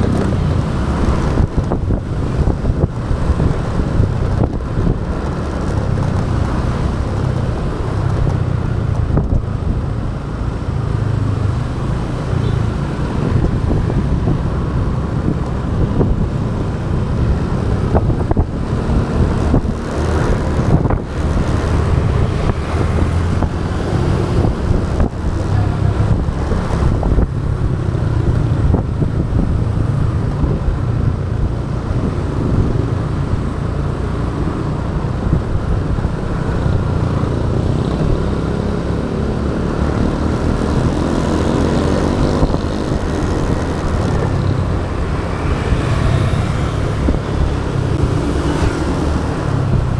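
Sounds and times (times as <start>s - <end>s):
motorbike engine: 0.0s - 49.9s
road traffic: 0.0s - 49.9s
wind buffeting microphone: 0.0s - 49.9s.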